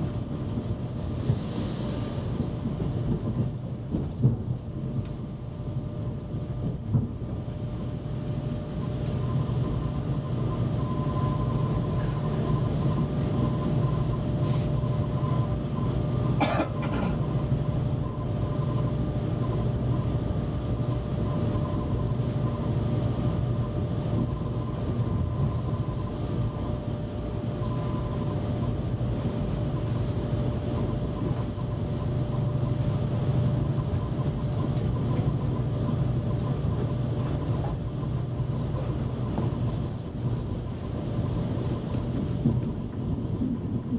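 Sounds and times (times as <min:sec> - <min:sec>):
train wheels rumbling on track: 0:00.0 - 0:43.9.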